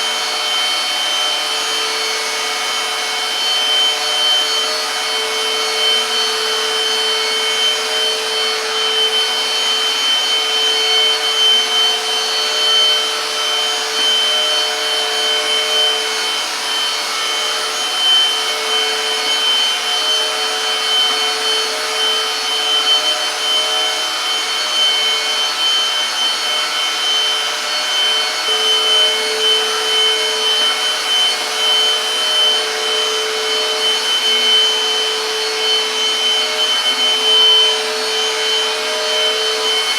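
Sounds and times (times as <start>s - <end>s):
vacuum mop motor whining: 0.0s - 39.9s.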